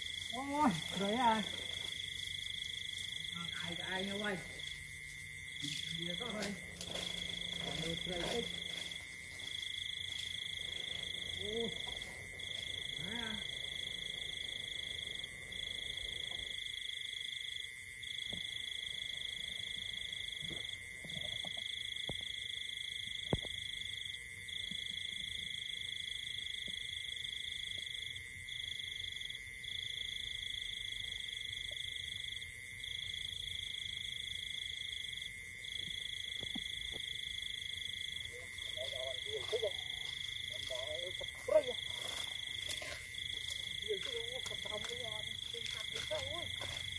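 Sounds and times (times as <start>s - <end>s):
insects droning high-pitched whine: 0.0s - 46.9s.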